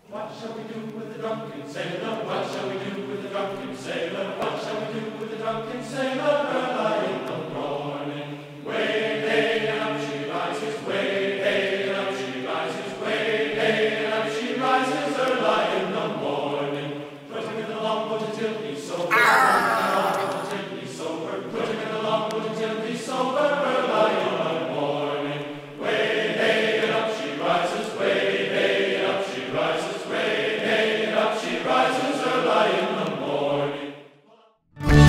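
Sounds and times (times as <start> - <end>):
choir singing: 0.1 - 34.5.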